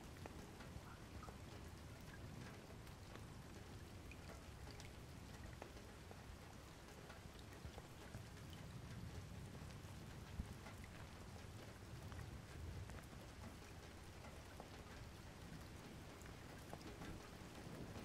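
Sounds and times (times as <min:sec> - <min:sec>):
low steady hiss and rumble: 0:00.0 - 0:18.0
soft ticks: 0:00.1 - 0:18.0.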